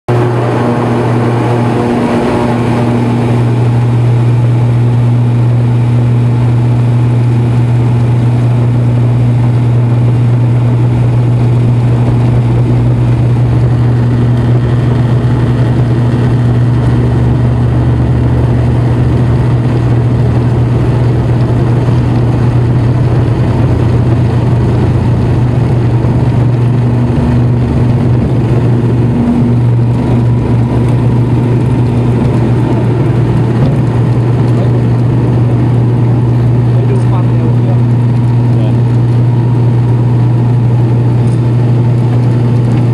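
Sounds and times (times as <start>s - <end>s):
airliner engines drone: 0.1s - 42.9s.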